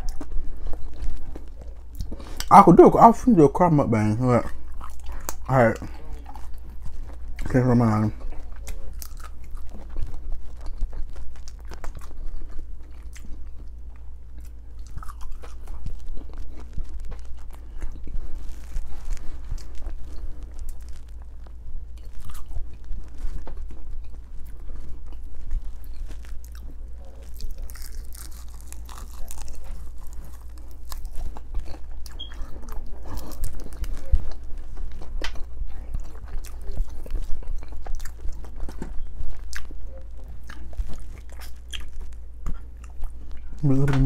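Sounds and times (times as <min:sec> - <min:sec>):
person chewing crunchy food: 0:00.0 - 0:03.4, 0:04.0 - 0:44.0
steady low hum: 0:00.0 - 0:44.0.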